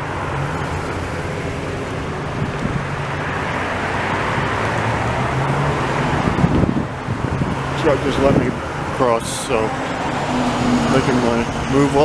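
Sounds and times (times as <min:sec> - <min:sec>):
road traffic noise: 0:00.0 - 0:12.0
truck engine humming: 0:00.0 - 0:12.0.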